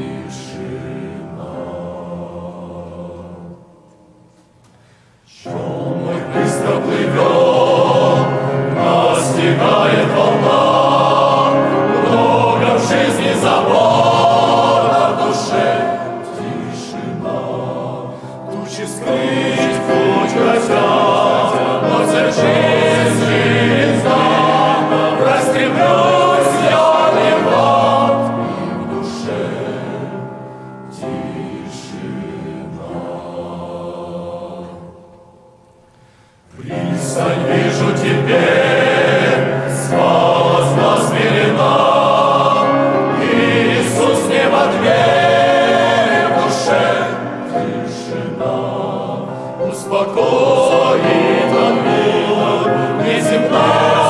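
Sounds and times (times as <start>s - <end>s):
men's choir singing a hymn: 0.0s - 3.8s, 4.8s - 35.4s, 36.0s - 54.0s.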